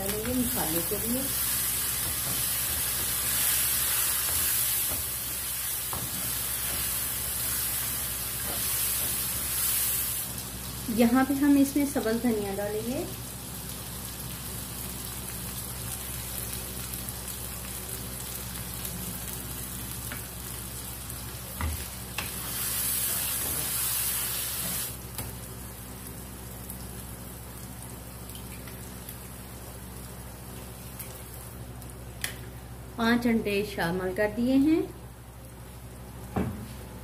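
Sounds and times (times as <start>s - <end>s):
masala sizzling in a pan: 0.0s - 33.0s.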